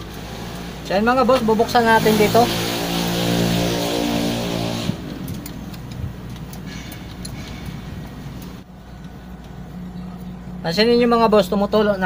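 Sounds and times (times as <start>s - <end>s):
engine humming with hiss: 0.0s - 12.0s.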